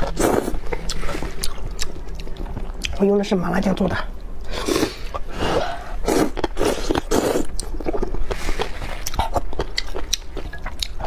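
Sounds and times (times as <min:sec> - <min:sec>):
wet slurping and chewing: 0:00.0 - 0:03.0, 0:04.4 - 0:11.0.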